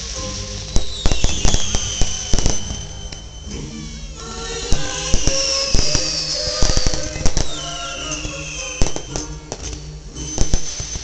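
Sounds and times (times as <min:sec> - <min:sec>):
fireworks bangs and crackles: 0:00.0 - 0:11.0
music with singing: 0:00.0 - 0:11.0.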